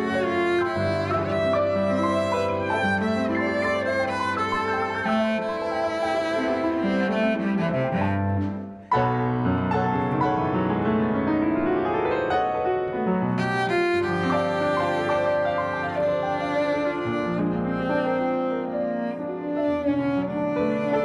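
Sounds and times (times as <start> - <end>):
cello: 0.0 - 21.0
grand piano: 0.0 - 21.0.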